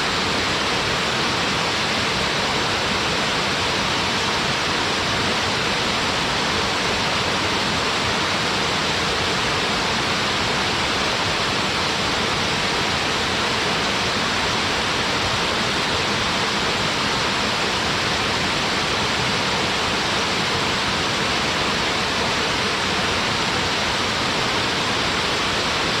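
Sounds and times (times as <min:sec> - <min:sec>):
waterfall splashing: 0:00.0 - 0:26.0.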